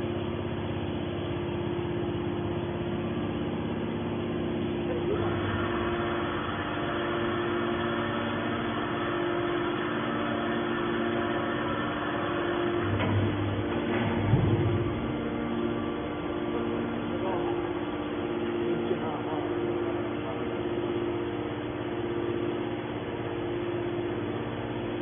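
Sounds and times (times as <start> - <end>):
baler machine drone: 0.0 - 25.0.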